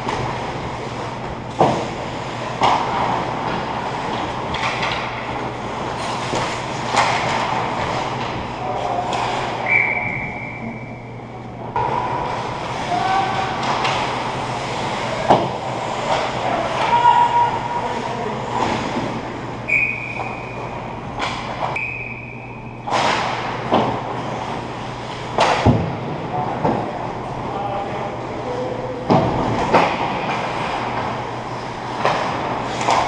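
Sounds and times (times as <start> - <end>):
skates scraping ice: 0.0 - 10.2, 11.8 - 21.8, 22.9 - 27.5, 28.3 - 33.0
sticks and puck clacking: 0.0 - 10.5, 11.7 - 27.5, 28.5 - 33.0
steady low hum: 0.0 - 33.0.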